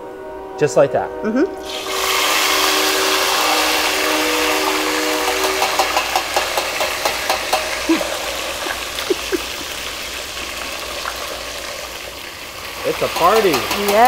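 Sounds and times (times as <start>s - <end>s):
chicken deep-frying sizzle: 1.6s - 14.0s.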